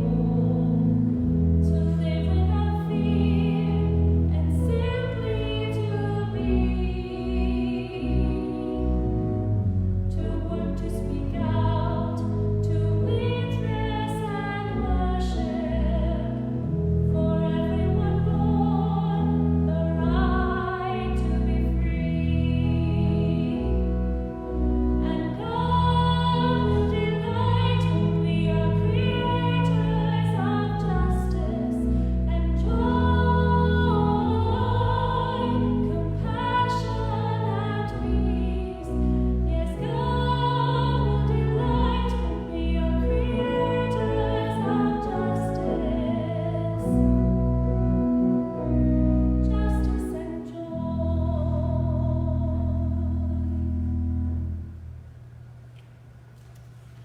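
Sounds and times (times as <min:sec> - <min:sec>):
classical singing with vibrato: 0:00.0 - 0:53.9
sustained keyboard accompaniment: 0:00.0 - 0:57.0.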